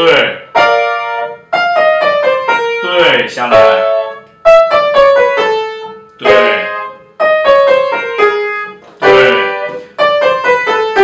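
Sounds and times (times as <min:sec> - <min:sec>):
upright piano chords and notes: 0:00.0 - 0:11.0.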